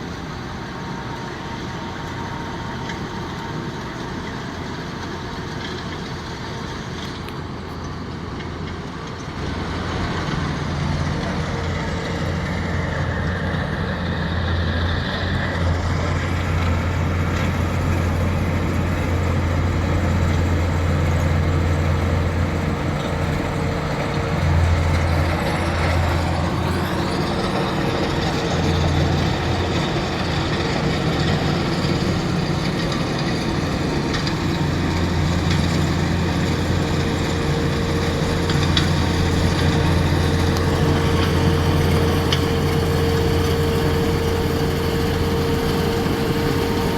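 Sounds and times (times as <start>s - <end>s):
heavy machine engine humming: 0.0s - 46.9s.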